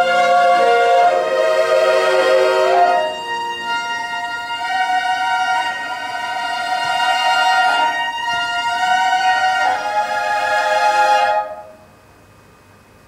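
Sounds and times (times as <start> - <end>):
bowed fiddle ensemble: 0.0 - 11.8.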